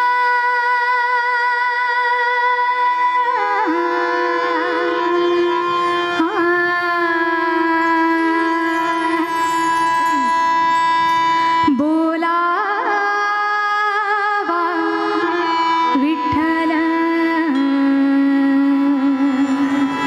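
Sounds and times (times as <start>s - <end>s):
woman singing devotional song: 0.0s - 10.9s, 11.6s - 20.0s
instrumental accompaniment: 2.9s - 20.0s.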